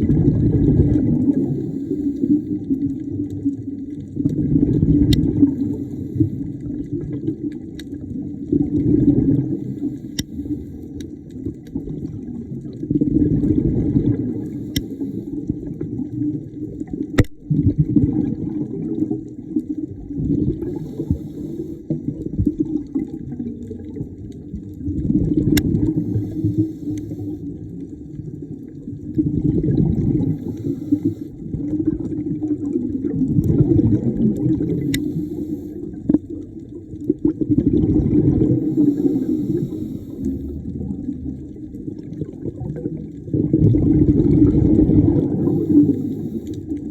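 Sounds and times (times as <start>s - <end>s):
underwater bubbling breath: 0.0s - 46.9s.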